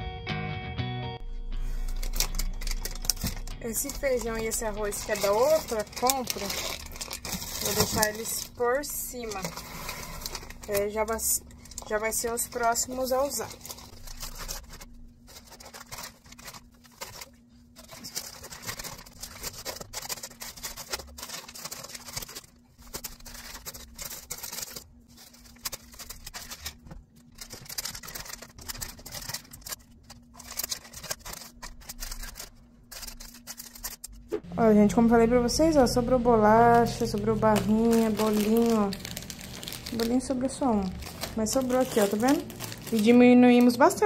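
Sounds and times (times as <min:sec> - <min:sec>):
steady low hum: 0:01.2 - 0:44.0
grocery packages rustling: 0:01.5 - 0:34.4, 0:35.2 - 0:44.0.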